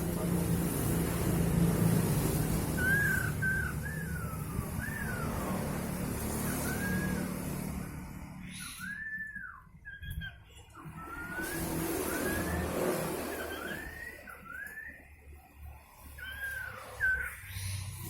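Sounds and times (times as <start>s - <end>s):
bird whistling calls: 2.6s - 15.4s, 16.0s - 18.0s.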